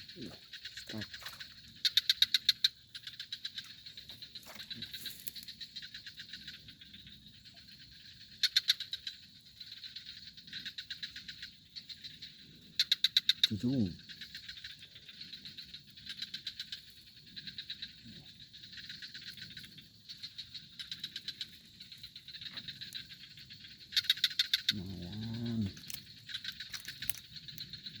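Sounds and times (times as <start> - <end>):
frogs calling in pulsed trills: 0.0 - 28.0.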